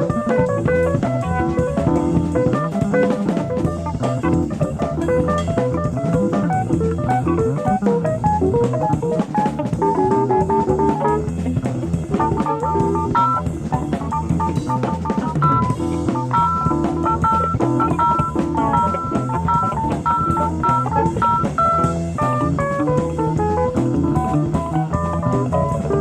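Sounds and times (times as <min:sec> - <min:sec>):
electric guitar: 0:00.0 - 0:26.0
jazz fusion band playing: 0:00.0 - 0:26.0.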